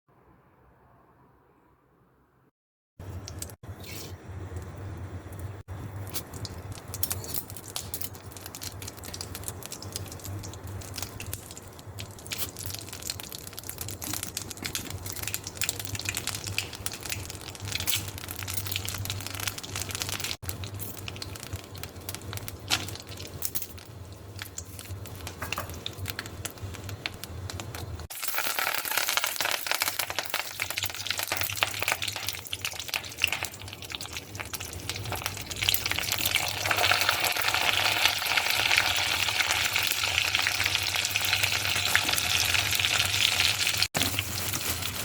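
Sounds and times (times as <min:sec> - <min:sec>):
crackles and clicks of pan cooking: 0:03.0 - 0:03.6, 0:04.5 - 0:45.0.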